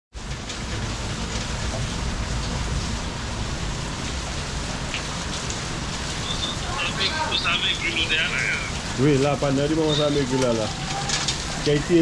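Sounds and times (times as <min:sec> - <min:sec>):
raindrops pattering on surfaces: 0:00.1 - 0:12.0
heavy rain falling: 0:00.2 - 0:12.0.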